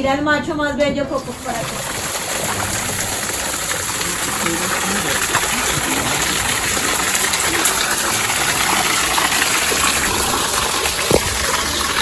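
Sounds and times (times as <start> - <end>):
flowing water rushing: 1.1 - 12.0.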